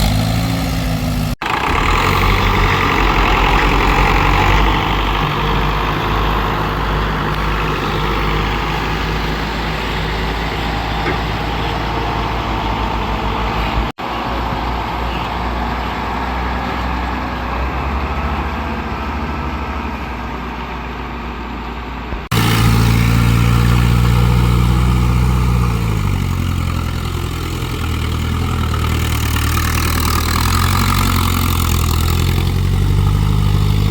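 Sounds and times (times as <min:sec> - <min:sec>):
tractor engines running: 0:00.0 - 0:33.9.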